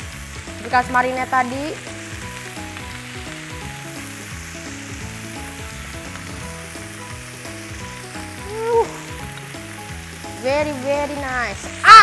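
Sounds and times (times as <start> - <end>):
background music: 0.0 - 12.0
chicken sizzling in pan: 0.0 - 12.0.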